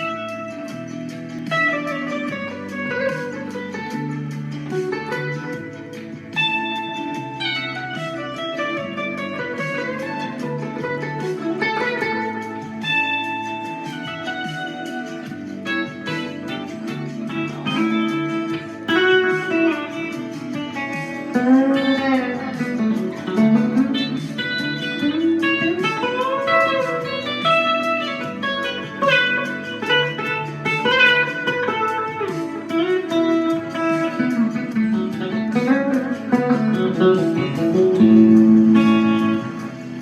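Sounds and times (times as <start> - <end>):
backing track: 0.0 - 40.0
electric guitar lead with tremolo: 0.0 - 40.0.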